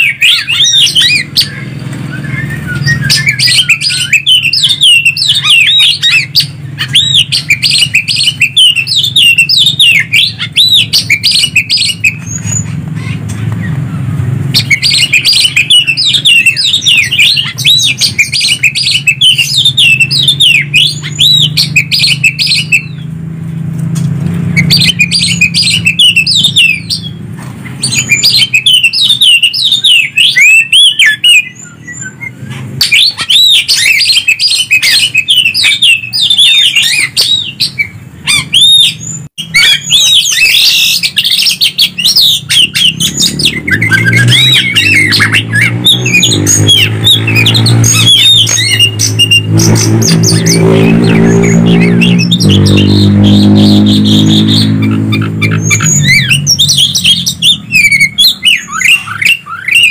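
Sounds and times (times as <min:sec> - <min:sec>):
birds singing whistled notes: 0:00.0 - 0:23.2, 0:24.3 - 0:59.9.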